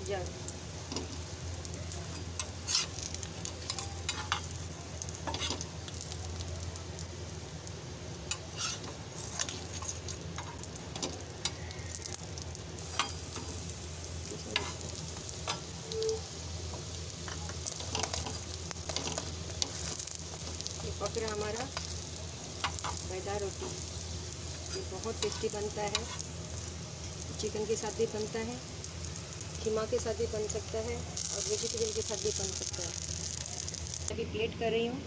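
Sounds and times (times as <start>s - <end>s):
flatbread frying in oil: 0.0s - 34.1s.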